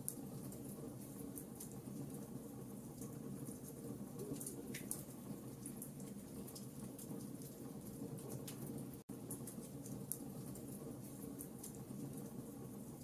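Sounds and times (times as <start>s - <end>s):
wood fire crackling and popping: 0.0s - 12.7s.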